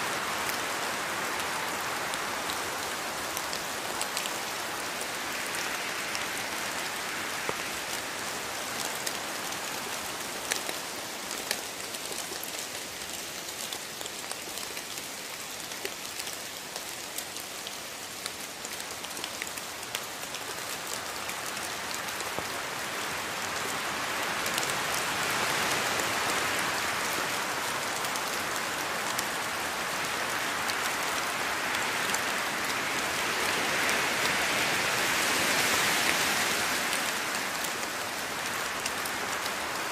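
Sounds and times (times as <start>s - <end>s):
rain pattering on foliage: 0.0s - 39.9s.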